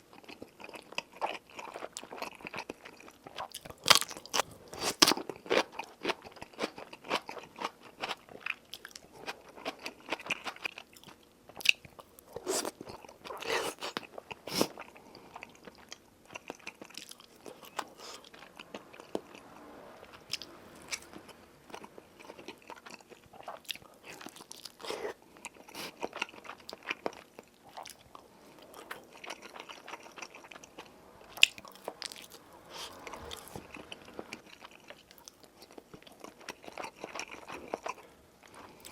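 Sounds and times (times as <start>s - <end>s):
chewing and biting food: 0.0s - 19.0s, 21.7s - 33.5s, 34.2s - 38.9s.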